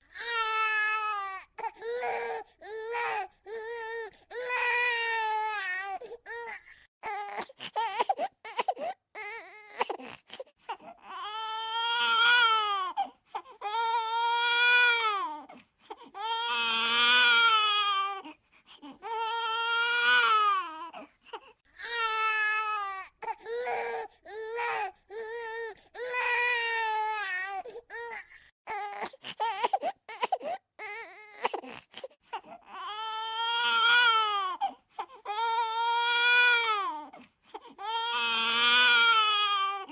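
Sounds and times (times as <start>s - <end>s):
baby crying: 0.2s - 31.8s, 32.4s - 39.9s.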